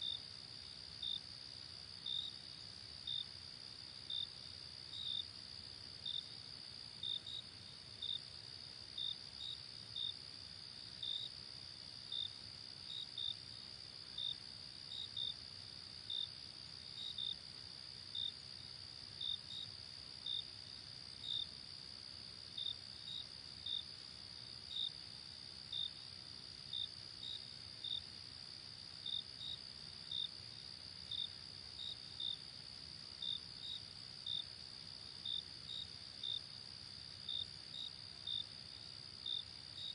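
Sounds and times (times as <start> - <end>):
insect chirps: 0.0 - 39.9.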